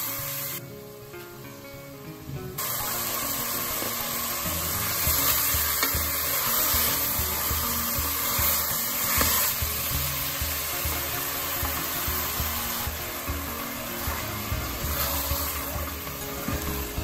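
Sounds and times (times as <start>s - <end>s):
chicken frying: 0.0s - 0.6s, 2.6s - 17.0s
background music: 0.0s - 17.0s.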